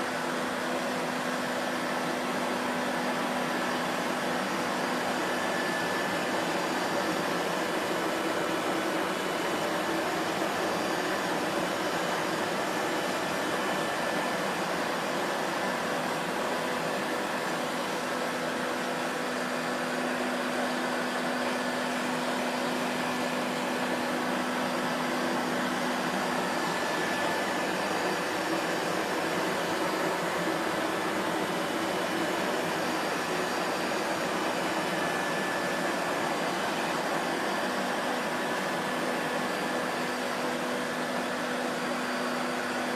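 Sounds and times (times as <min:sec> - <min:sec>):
vacuum cleaner motor running: 0:00.0 - 0:42.9.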